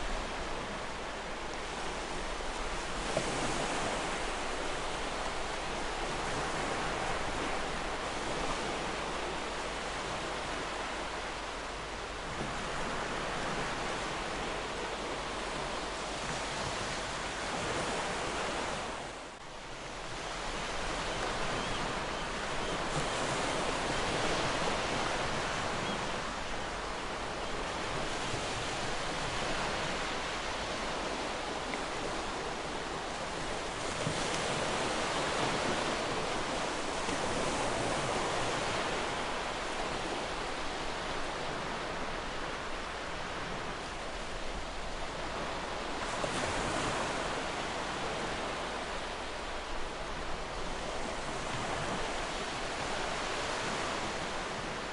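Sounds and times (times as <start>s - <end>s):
ocean waves on shore: 0.0s - 54.9s.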